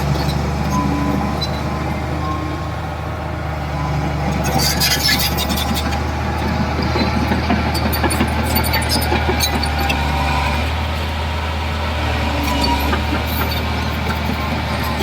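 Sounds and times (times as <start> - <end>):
diesel machinery drone: 0.0 - 15.0.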